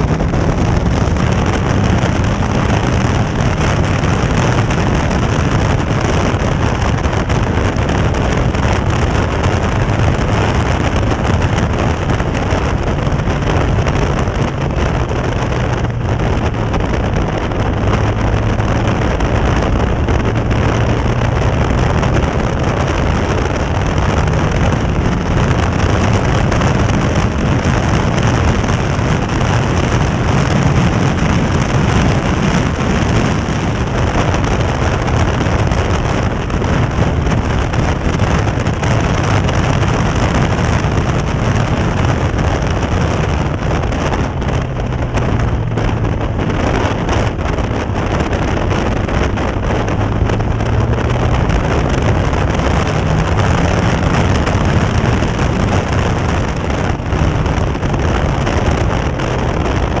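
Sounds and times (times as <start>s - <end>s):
sports car engine running hard: 0.0s - 60.0s
wet road noise: 0.0s - 60.0s
wind rushing: 0.0s - 60.0s.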